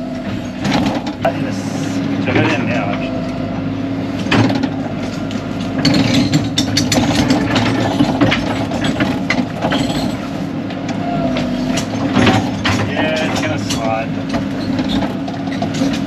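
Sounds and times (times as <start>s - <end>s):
excavator diesel engine running: 0.0s - 16.0s
metal clanks and knocks: 0.2s - 1.4s, 2.2s - 3.1s, 4.2s - 16.0s.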